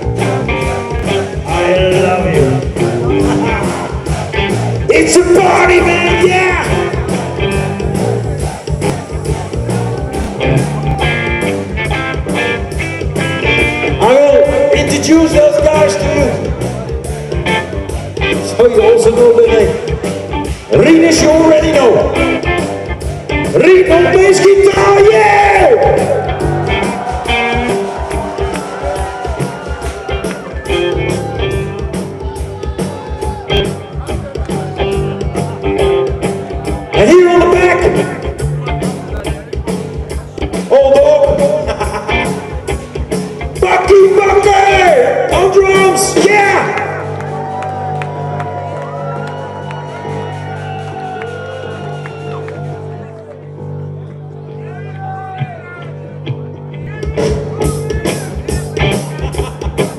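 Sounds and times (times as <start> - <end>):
electric guitar: 0.0 - 44.2, 56.0 - 59.9
drums beating: 0.0 - 52.9, 56.4 - 59.9
rock band playing: 0.0 - 59.9.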